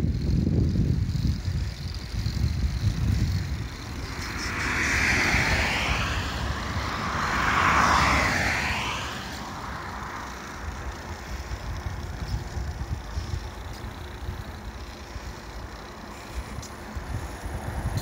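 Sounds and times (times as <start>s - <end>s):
vehicle passing: 2.2s - 18.0s.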